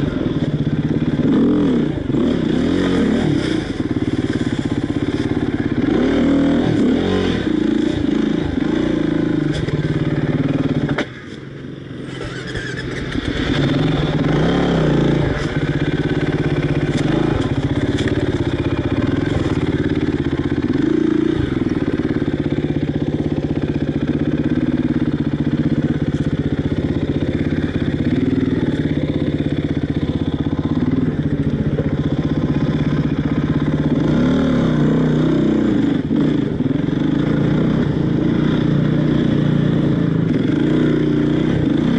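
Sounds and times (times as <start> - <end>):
dirt bike engine revving: 0.0 - 11.0, 11.9 - 41.9.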